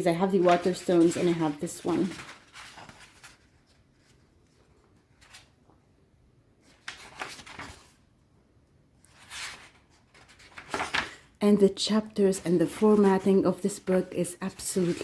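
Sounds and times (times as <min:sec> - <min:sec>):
book pages rustling: 0:00.0 - 0:05.9, 0:06.6 - 0:08.1, 0:09.0 - 0:11.3, 0:12.3 - 0:15.0.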